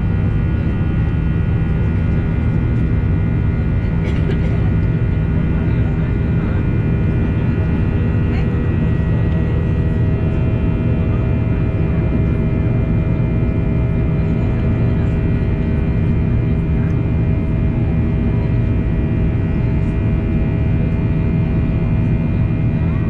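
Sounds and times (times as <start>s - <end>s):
jet engine cabin rumble: 0.0s - 23.0s.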